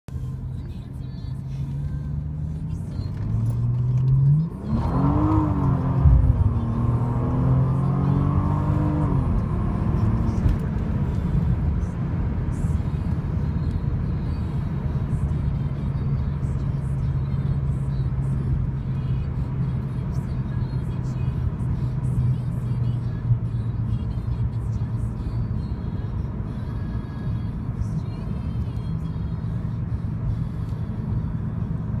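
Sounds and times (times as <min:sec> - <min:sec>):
car engine drone: 0:00.1 - 0:32.0
road noise: 0:00.1 - 0:32.0.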